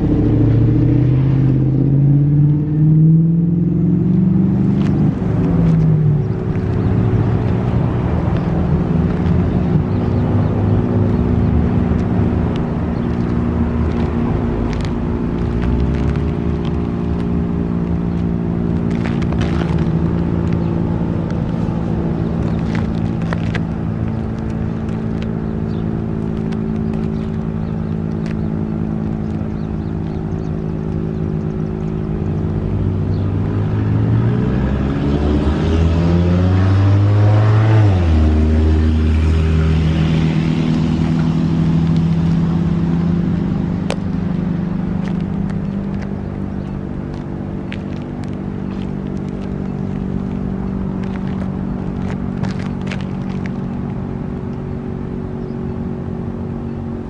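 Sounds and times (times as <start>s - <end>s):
car passing: 0.0s - 57.0s.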